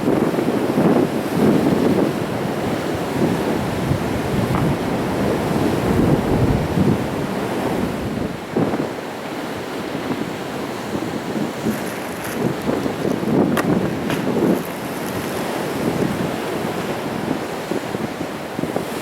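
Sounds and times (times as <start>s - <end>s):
waves breaking on rocks: 0.0s - 19.0s
wind buffeting microphone: 0.0s - 19.0s.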